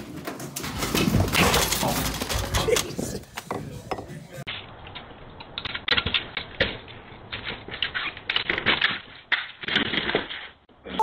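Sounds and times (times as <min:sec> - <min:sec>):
scooter wheels rattling on concrete: 0:00.0 - 0:10.7.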